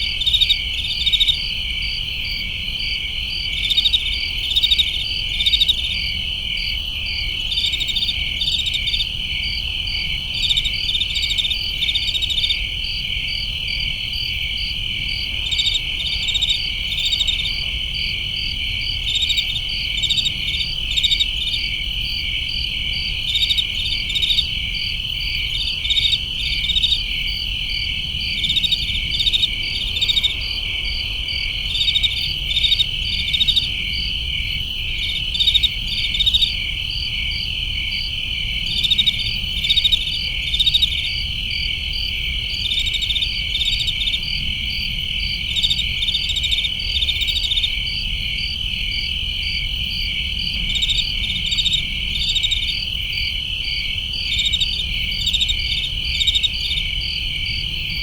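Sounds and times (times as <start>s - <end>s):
crickets trilling: 0.0s - 58.0s
pulsed cricket chirps: 0.0s - 58.0s.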